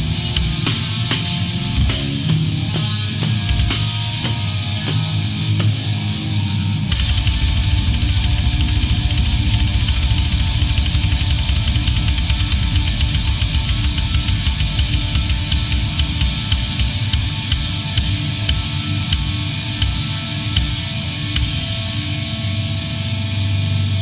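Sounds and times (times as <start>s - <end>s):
fast dense drumming: 0.0s - 6.1s, 6.9s - 22.0s
distorted guitars and bass: 0.0s - 24.0s.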